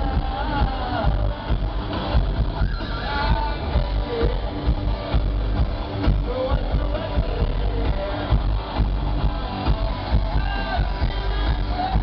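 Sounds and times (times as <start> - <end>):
live heavy metal band: 0.0 - 12.0.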